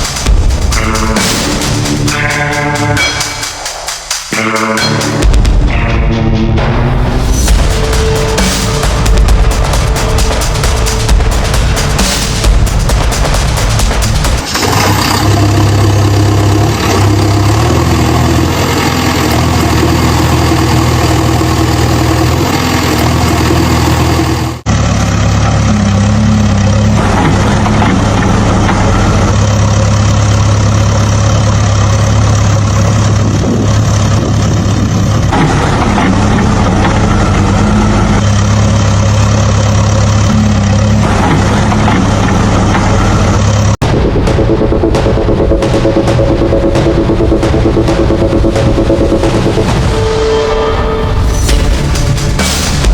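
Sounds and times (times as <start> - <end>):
heavy machine engine idling: 0.0 - 3.5, 6.6 - 52.9.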